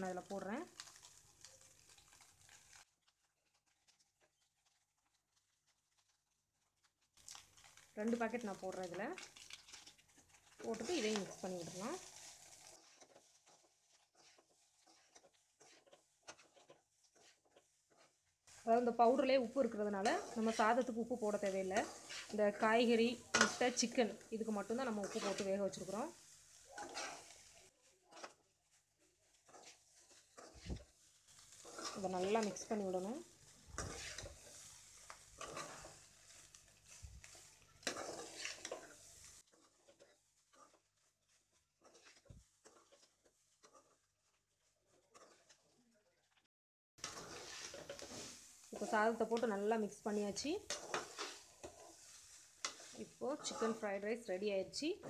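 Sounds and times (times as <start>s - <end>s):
soft sizzle: 0.0s - 55.0s
metal spatula scraping in a wok: 7.3s - 46.4s, 47.0s - 55.0s.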